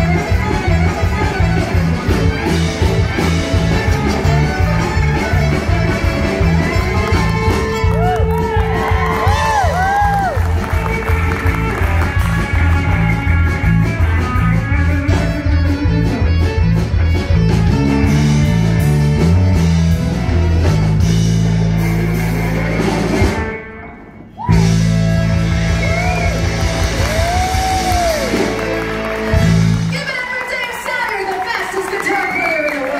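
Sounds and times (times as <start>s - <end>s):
country band playing: 0.0s - 32.9s.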